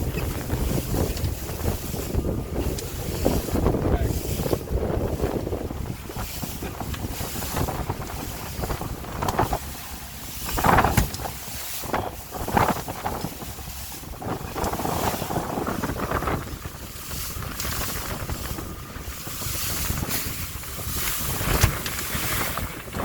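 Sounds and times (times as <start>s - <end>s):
motorboat running: 0.0s - 23.0s
waves and spray: 0.0s - 23.0s
wind buffeting microphone: 0.0s - 23.0s.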